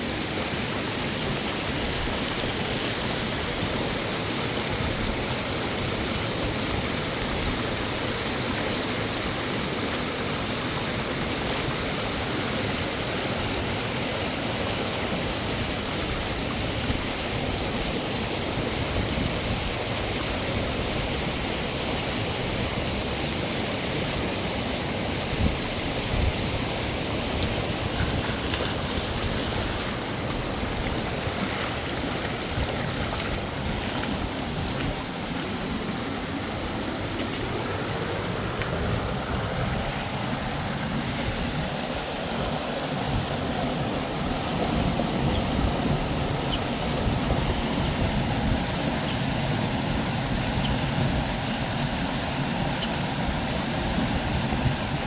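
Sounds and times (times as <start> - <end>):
mountain river rushing: 0.0 - 55.0.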